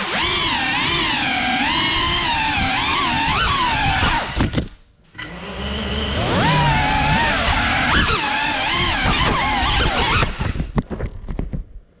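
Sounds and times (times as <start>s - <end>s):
quadcopter motors whining: 0.0s - 10.7s.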